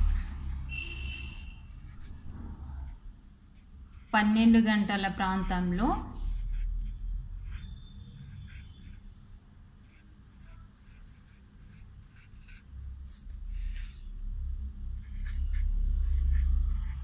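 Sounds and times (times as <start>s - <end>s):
marker scratching on paper: 0.0s - 4.6s, 5.3s - 9.2s, 9.8s - 17.0s.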